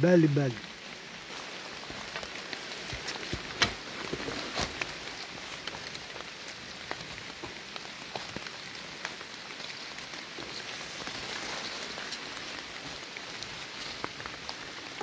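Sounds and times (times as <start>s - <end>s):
sharp ticks of raindrops: 0.0s - 15.0s
steady rain falling: 0.0s - 15.0s.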